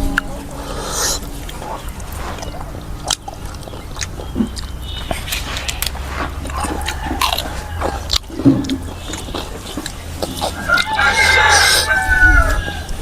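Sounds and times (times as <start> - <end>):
sharp mouth clicks: 0.0 - 10.9
steady low hum: 0.0 - 11.6
person biting and chewing food: 0.0 - 13.0.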